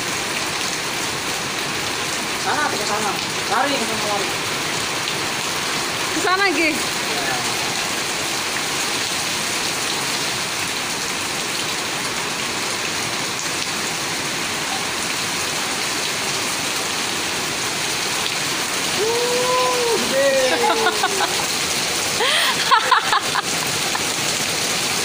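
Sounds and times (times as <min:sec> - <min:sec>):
rain splashing on concrete: 0:00.0 - 0:25.0.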